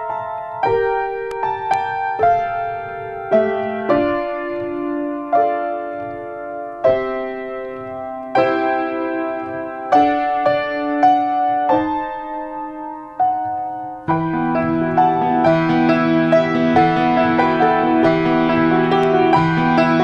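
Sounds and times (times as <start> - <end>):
slow quiet piano piece: 0.0 - 20.0.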